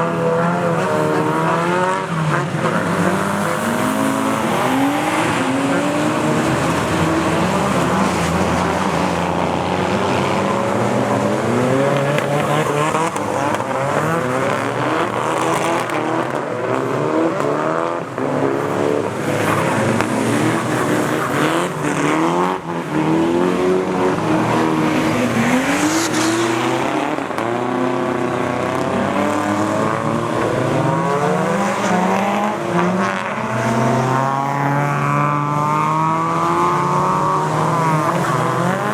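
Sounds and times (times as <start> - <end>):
car engines revving hard: 0.0 - 38.9.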